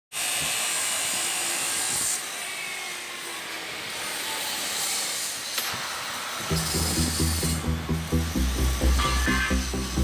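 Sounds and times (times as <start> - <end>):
power tool rasping hiss: 0.2 - 10.0.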